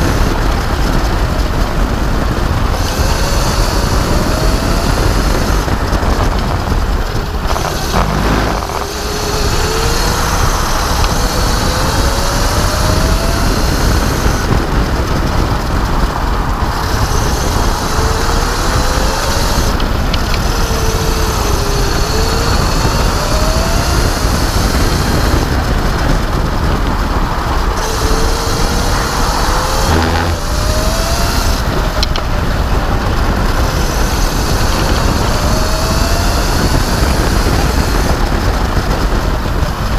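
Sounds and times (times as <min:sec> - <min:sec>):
electric motor whining: 0:00.0 - 0:39.9
wind and track noise: 0:00.0 - 0:39.9.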